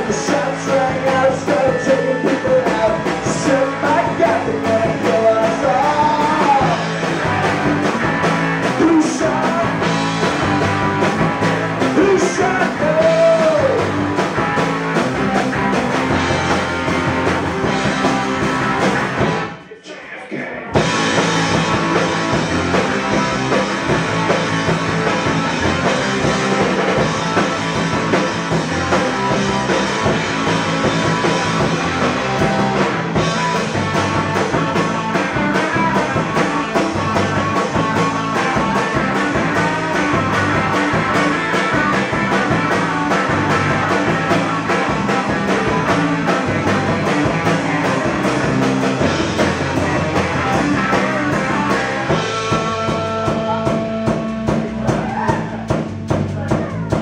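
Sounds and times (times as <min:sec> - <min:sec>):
drum kit: 0:00.0 - 0:19.7, 0:20.4 - 0:57.0
electric bass: 0:00.0 - 0:19.7, 0:20.7 - 0:57.0
electric guitar: 0:00.0 - 0:19.7, 0:20.7 - 0:57.0.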